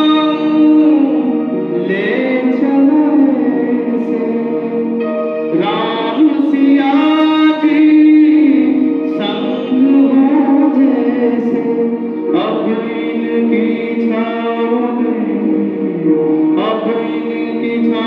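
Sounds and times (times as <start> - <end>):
electronic keyboard devotional music: 0.0 - 18.0
man singing: 0.0 - 18.0.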